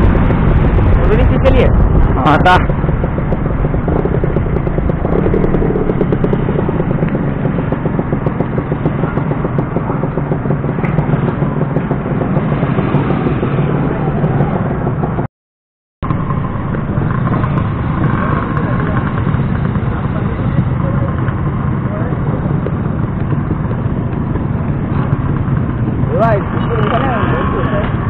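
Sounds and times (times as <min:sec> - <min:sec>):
motorcycle engine running: 0:00.0 - 0:15.3, 0:16.0 - 0:28.0.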